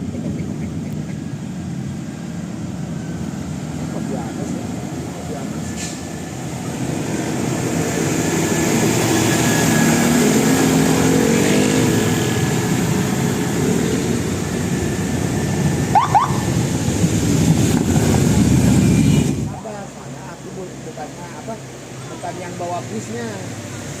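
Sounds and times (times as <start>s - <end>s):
bus driving past: 0.0s - 24.0s.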